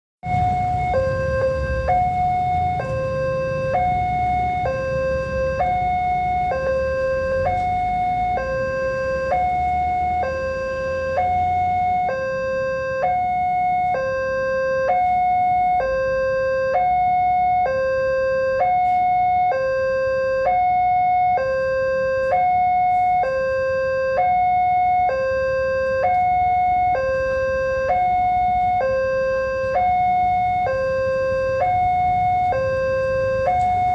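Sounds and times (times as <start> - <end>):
level crossing warning alarm: 0.2 - 33.9
low traffic rumble: 0.2 - 33.9.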